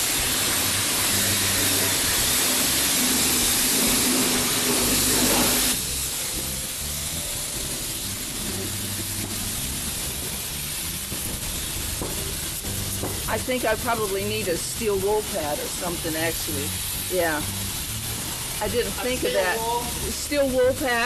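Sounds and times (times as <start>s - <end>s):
pressure washer spraying: 0.0s - 21.0s.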